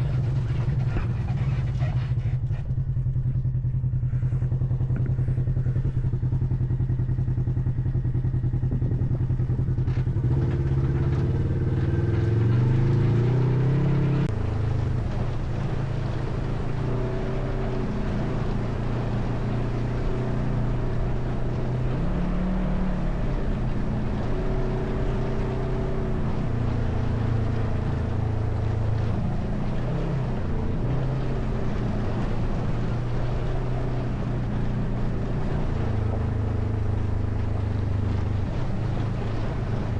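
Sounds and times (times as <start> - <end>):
all-terrain vehicle engine running: 0.0 - 39.9.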